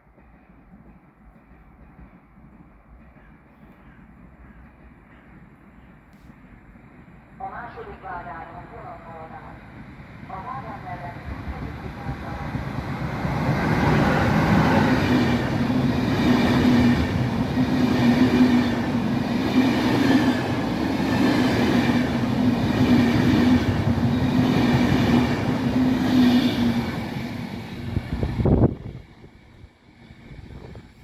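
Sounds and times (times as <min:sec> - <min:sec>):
train wheels rumbling on rails: 0:00.0 - 0:08.2, 0:09.0 - 0:31.0.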